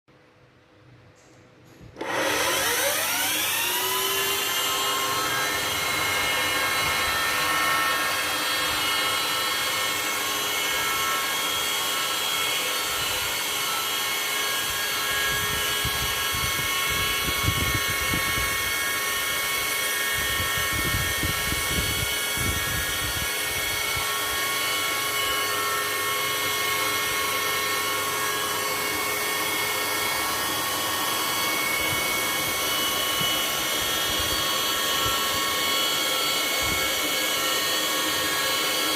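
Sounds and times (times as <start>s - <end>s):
electric motor whining: 2.0s - 38.9s.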